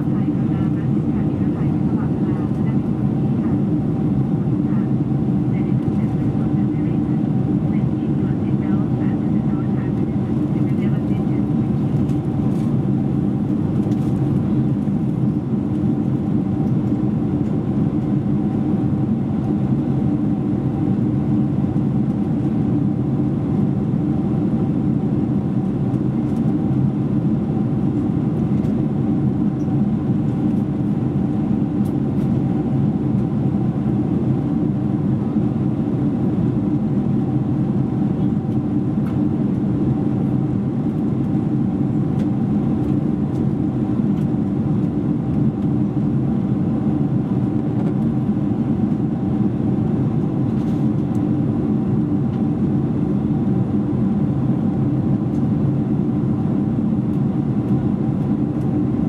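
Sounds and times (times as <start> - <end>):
jet airliner cabin roar: 0.0 - 59.0.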